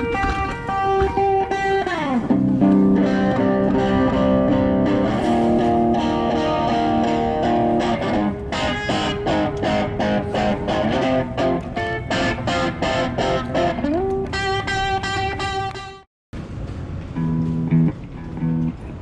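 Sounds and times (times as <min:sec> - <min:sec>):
guitar playing: 0:00.0 - 0:16.1, 0:17.1 - 0:19.0.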